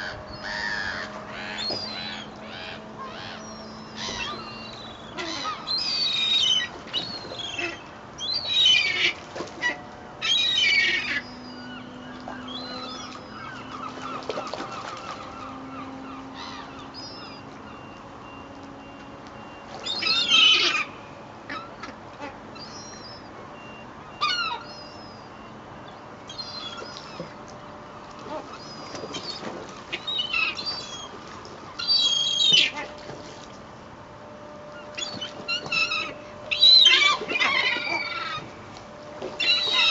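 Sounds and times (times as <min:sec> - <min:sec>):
seagulls calling harshly: 0:00.0 - 0:27.4, 0:28.2 - 0:33.1, 0:34.7 - 0:39.9.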